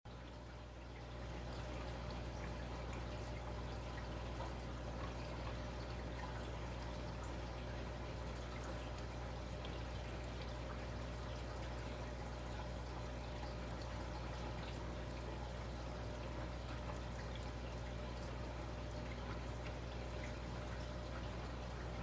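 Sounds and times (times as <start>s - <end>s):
aquarium water trickling: 0.1s - 22.0s
low steady hum: 0.1s - 22.0s.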